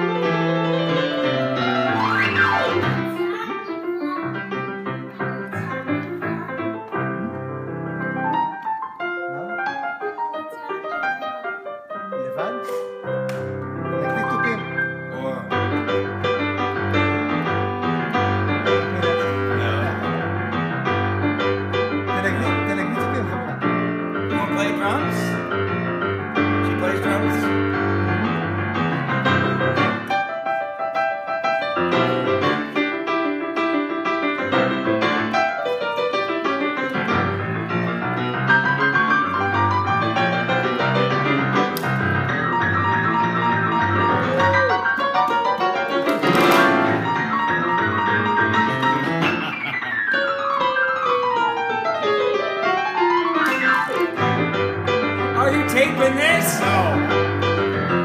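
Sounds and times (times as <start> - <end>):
solo digital piano playing: 0.0 - 58.0.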